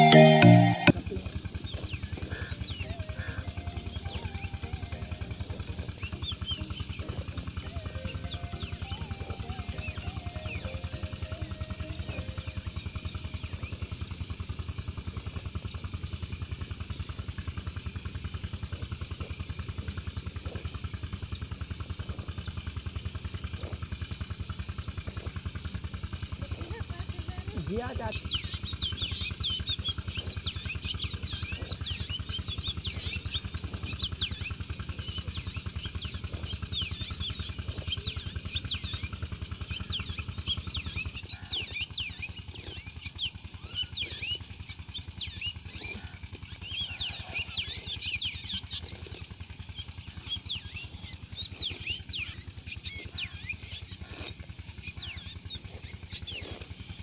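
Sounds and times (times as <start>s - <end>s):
low steady hum: 0.0s - 57.0s
small birds chirping: 0.0s - 57.0s.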